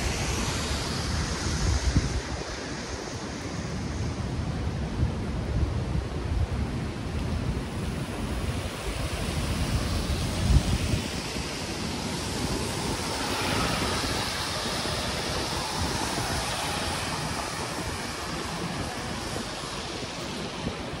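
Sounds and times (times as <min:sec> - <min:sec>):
storm wind rushing: 0:00.0 - 0:21.0
wind buffeting microphone: 0:00.0 - 0:21.0.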